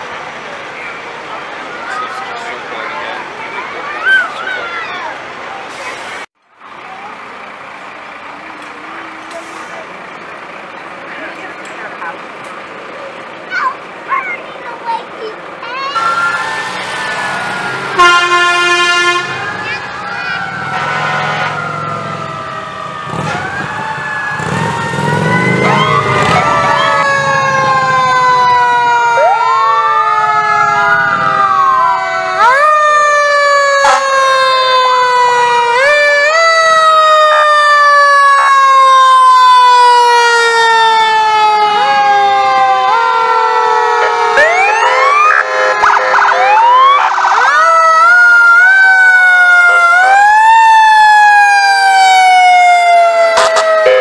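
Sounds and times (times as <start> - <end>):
emergency sirens wailing: 0.0 - 54.0.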